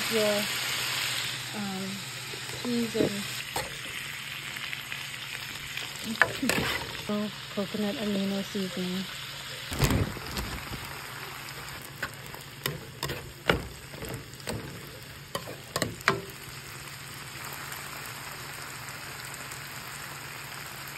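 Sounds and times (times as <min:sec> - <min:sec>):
food sizzling in a frying pan: 0:00.0 - 0:20.9.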